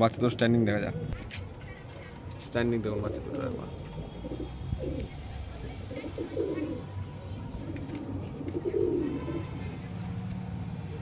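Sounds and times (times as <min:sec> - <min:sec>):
pigeons cooing: 0:00.2 - 0:09.6.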